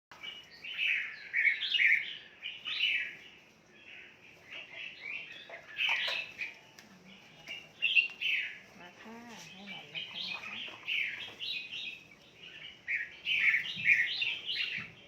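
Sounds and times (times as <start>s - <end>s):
birds chirping and singing: 0.1s - 15.0s.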